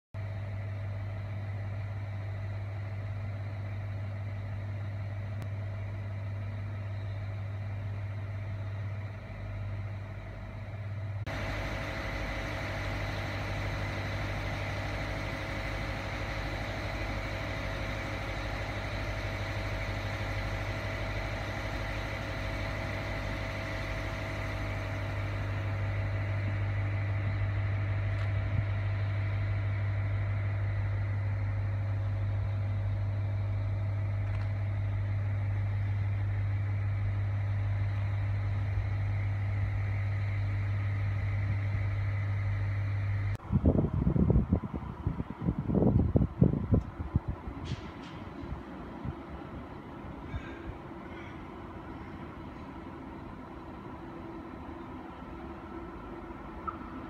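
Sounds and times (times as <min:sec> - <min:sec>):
locomotive engine hum: 0:00.2 - 0:57.0
rushing mechanical noise with whine: 0:08.9 - 0:57.0.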